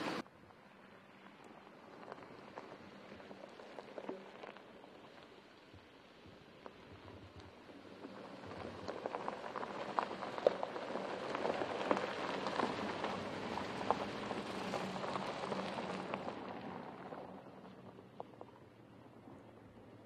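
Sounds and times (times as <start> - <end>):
gravel crunching under tyres: 0.0 - 20.0
small stone ticks: 1.3 - 19.5.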